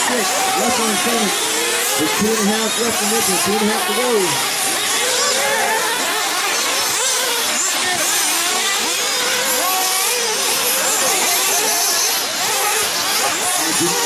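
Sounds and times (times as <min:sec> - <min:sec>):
rc car engines revving: 0:00.0 - 0:14.0.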